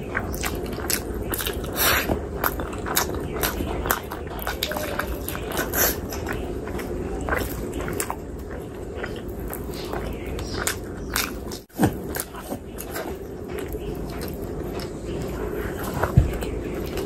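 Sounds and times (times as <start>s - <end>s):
chewing and wet mouth smacking: 0.0s - 17.0s.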